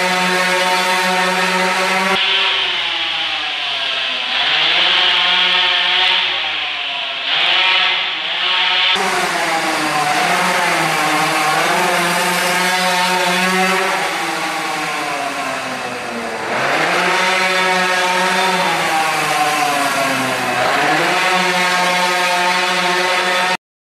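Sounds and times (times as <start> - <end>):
small motorbike engine revving: 0.0 - 23.6.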